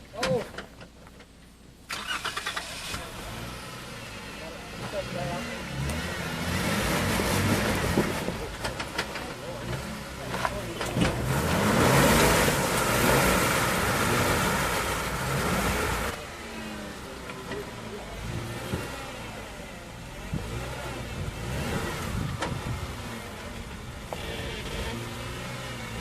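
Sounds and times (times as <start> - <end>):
engine revving under load: 1.9 - 26.0.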